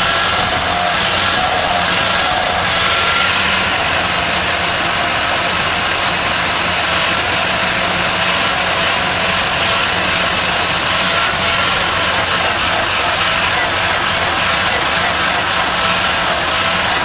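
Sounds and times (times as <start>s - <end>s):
machine motor humming and hissing: 0.0s - 17.0s.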